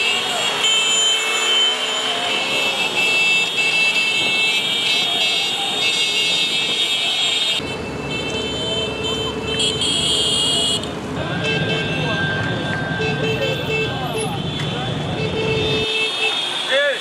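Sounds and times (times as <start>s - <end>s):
motorbike engines passing: 0.0s - 17.0s.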